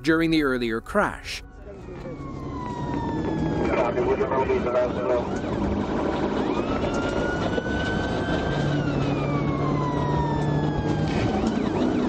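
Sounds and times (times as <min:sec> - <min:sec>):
police siren wailing: 0:00.1 - 0:12.0
car engine and road noise: 0:01.5 - 0:12.0.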